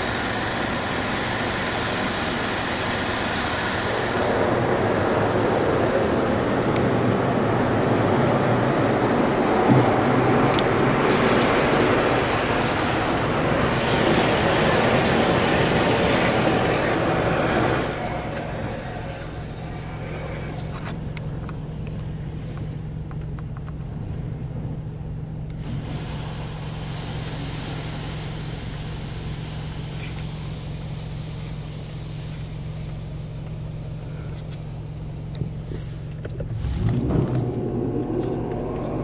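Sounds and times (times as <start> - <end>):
car wash spray hiss: 0.0 - 22.8, 25.5 - 37.1
constant low hum: 0.0 - 39.0.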